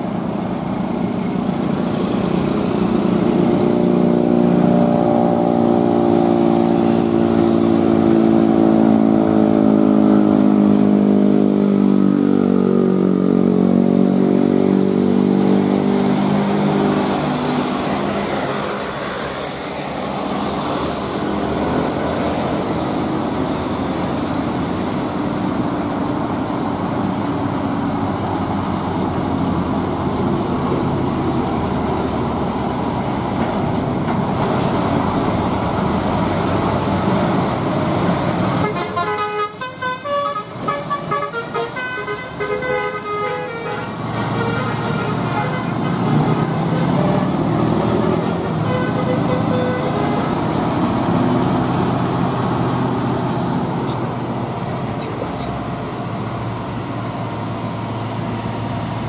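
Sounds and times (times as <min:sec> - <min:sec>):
passing road traffic: 0:00.0 - 0:59.0
truck diesel engine labouring: 0:00.0 - 0:59.0.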